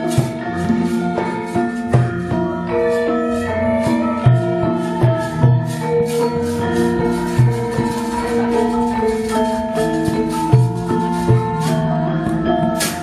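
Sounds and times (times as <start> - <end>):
clattering beat: 0.0 - 13.0
ringing metallophone tones: 0.0 - 13.0.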